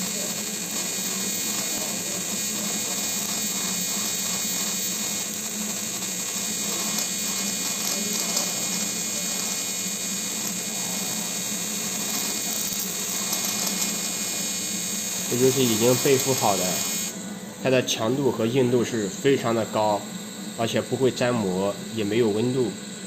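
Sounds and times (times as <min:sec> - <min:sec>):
spark gun buzzing: 0:00.0 - 0:23.0.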